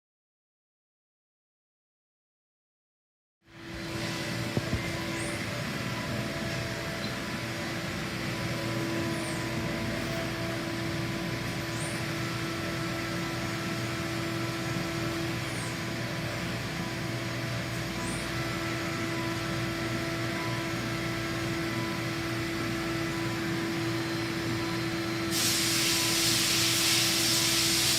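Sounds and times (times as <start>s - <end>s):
milling machine hum: 3.5s - 27.9s.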